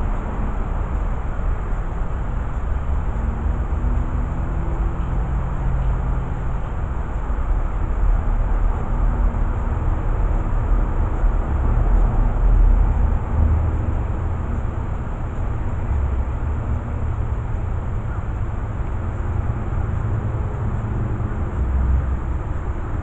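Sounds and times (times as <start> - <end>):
outdoor low rumble: 0.0 - 23.0.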